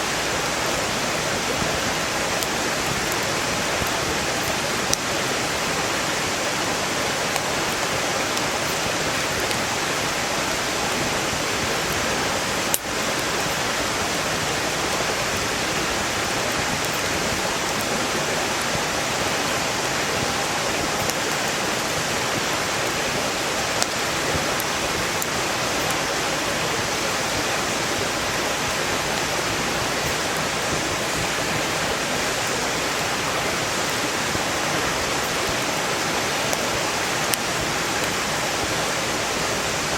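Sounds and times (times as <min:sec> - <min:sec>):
campfire crackling and popping: 0:00.0 - 0:39.9
stream rushing: 0:00.0 - 0:39.9.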